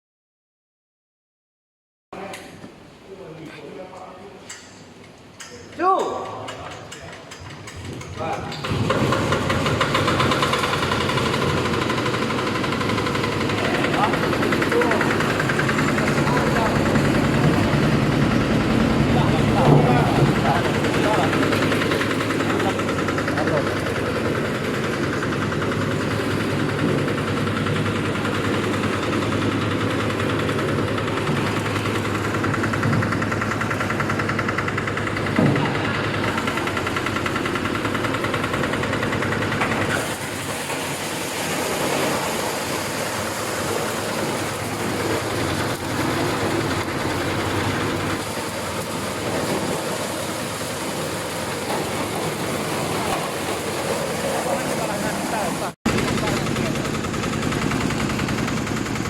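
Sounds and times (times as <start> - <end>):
corn husking machine droning: 5.4 - 59.0.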